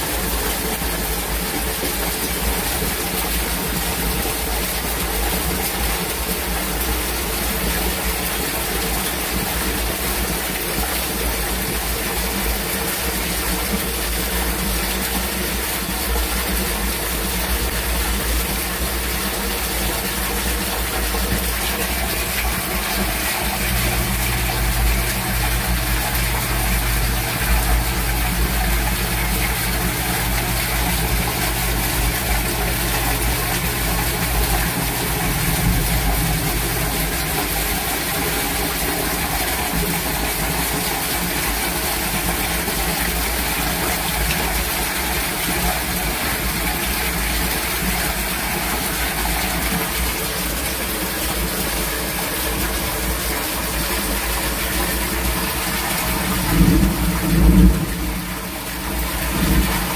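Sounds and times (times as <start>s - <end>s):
heavy rain: 0.0s - 59.9s
rushing drainage water: 0.0s - 59.9s
sump pump humming: 0.0s - 59.9s.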